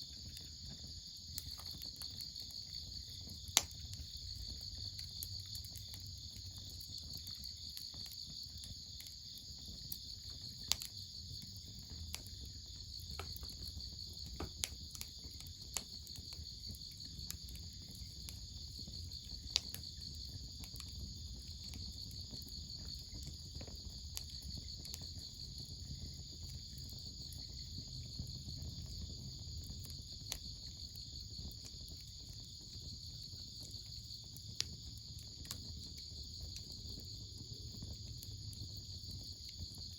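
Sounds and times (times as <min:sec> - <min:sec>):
insect chorus: 0:00.0 - 0:39.9
wood fire crackling: 0:00.0 - 0:39.9.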